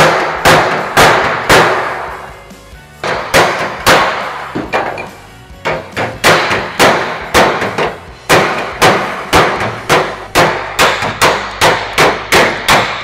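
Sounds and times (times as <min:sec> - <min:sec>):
hammer striking sheet metal: 0:00.0 - 0:02.3, 0:03.0 - 0:13.0.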